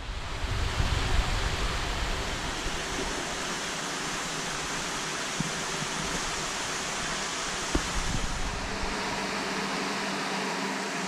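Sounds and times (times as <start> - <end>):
underwater water rushing hiss: 0.0 - 11.0.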